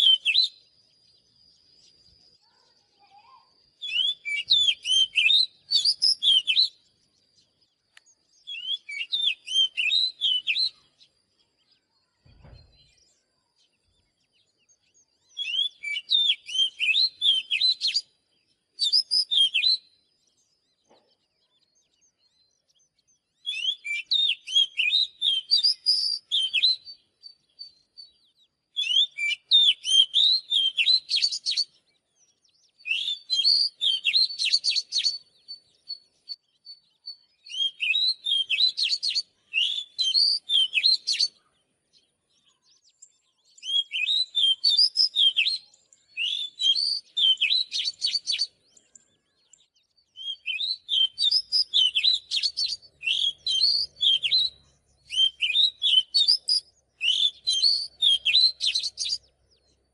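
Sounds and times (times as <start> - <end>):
magpie-robin singing: 0.0 - 13.1, 13.7 - 20.8, 21.4 - 59.9.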